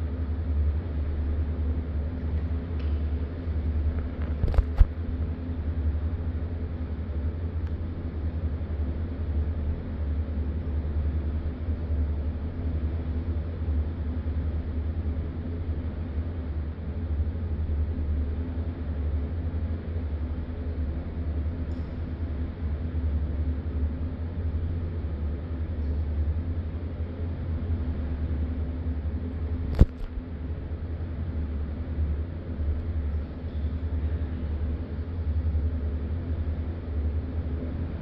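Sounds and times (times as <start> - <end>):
low machinery hum: 0.0 - 38.0.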